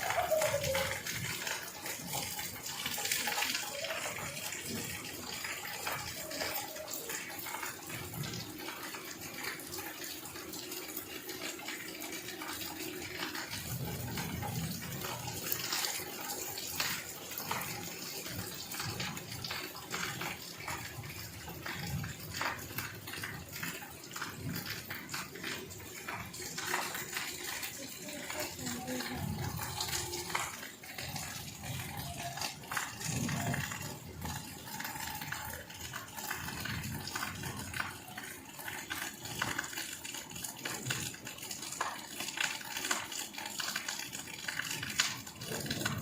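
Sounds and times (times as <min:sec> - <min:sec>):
heavy rain splashing: 0:00.0 - 0:46.0
water running: 0:00.0 - 0:46.0.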